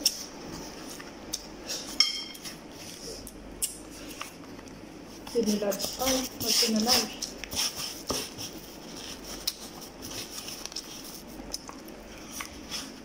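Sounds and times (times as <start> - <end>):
person chewing: 0.0 - 5.3, 5.9 - 13.0.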